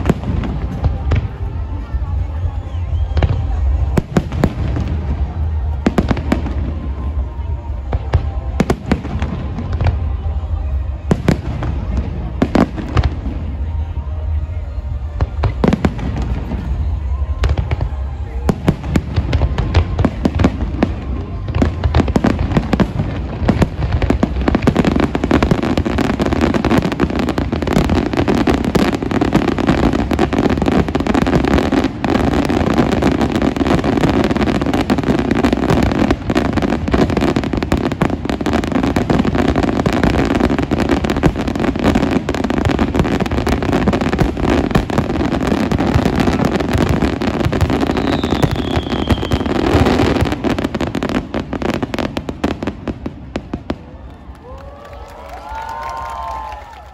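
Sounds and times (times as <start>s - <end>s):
fireworks bangs and crackles: 0.0s - 56.9s
falling firework whistle: 2.3s - 52.6s.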